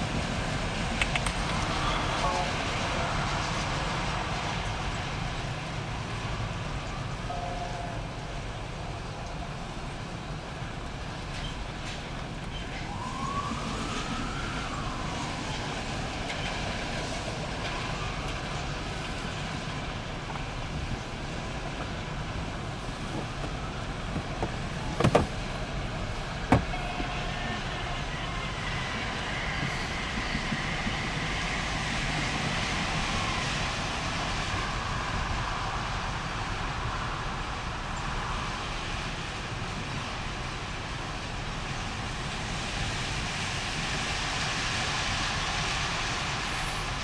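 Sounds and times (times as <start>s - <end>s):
freight train wheels on rail: 0.0s - 47.0s.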